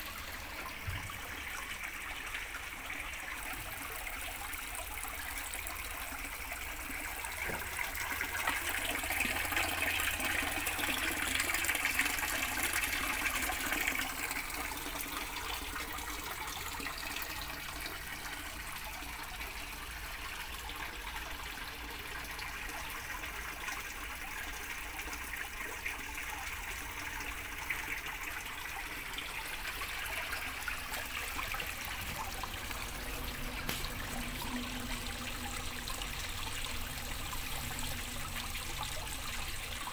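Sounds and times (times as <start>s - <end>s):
water splashing into pond: 0.0s - 39.9s.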